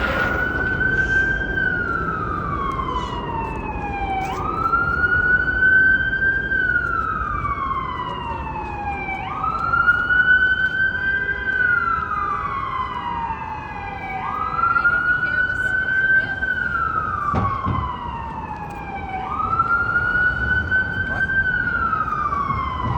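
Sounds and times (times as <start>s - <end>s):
city traffic noise: 0.0s - 22.9s
emergency siren wailing: 0.0s - 22.9s.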